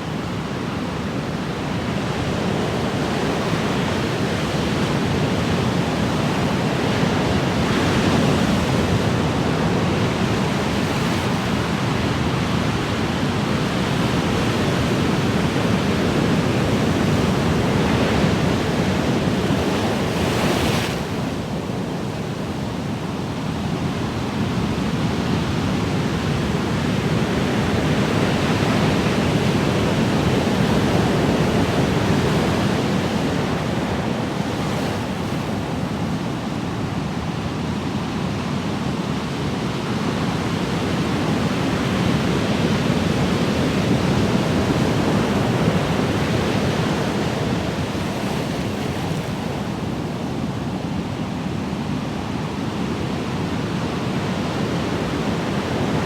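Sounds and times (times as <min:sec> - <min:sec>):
ocean waves washing ashore: 0:00.1 - 0:56.0.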